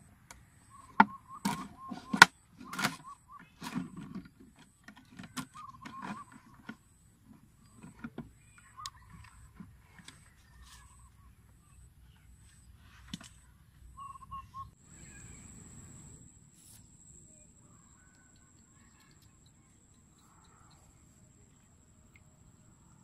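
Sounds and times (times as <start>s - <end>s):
faint bird calls: 0.0s - 16.2s, 17.0s - 22.2s.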